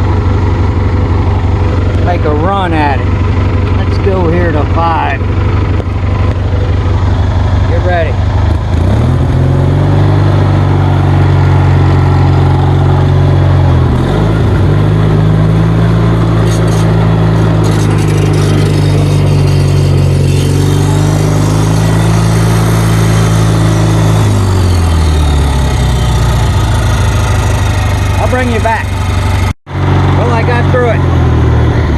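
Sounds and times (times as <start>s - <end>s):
lawnmower engine running hard: 0.0s - 31.9s.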